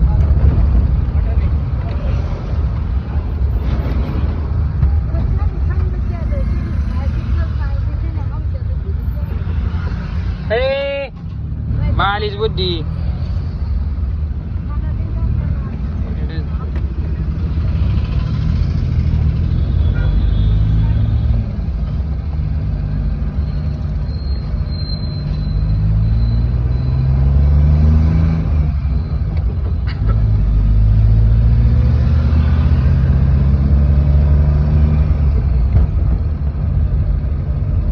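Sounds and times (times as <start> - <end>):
road noise: 0.0 - 37.9.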